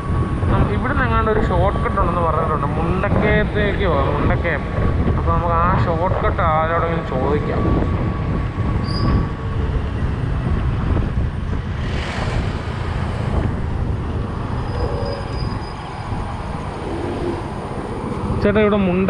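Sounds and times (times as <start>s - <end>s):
scooter road noise: 0.0s - 19.0s
wind buffeting microphone: 0.0s - 19.0s.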